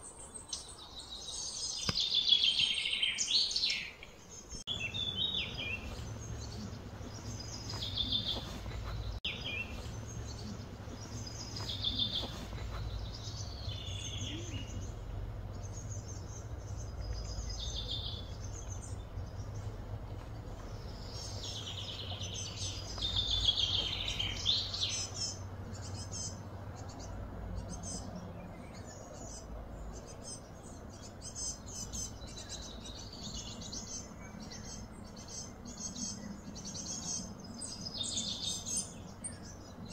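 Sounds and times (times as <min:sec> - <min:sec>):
birds chirping and trilling: 0:00.0 - 0:39.9
steady low background hum: 0:03.9 - 0:39.9.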